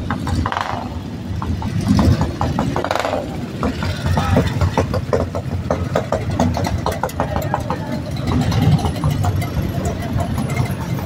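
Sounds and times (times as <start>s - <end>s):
motorcycles riding slowly past: 0.0s - 11.0s.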